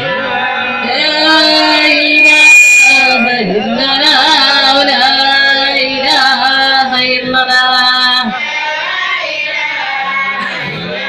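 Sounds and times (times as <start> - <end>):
person singing a chant: 0.0 - 11.0.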